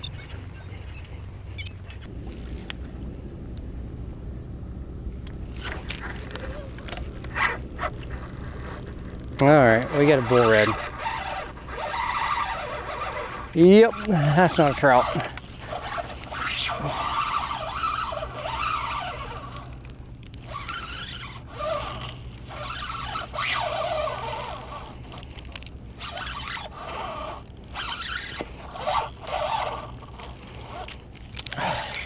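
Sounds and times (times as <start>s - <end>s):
fishing reel drag buzzing: 5.5s - 32.0s.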